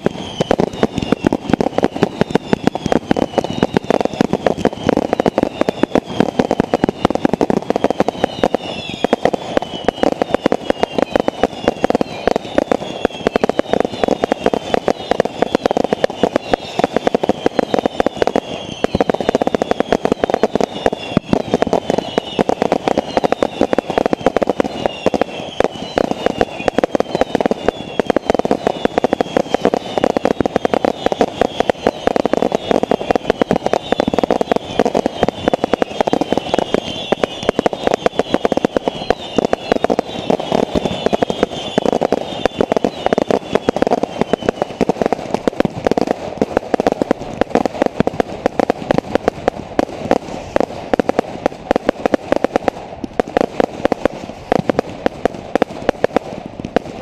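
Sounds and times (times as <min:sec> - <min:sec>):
falling firework whistles: 0:00.0 - 0:57.0
fireworks bangs and crackles: 0:00.0 - 0:57.0.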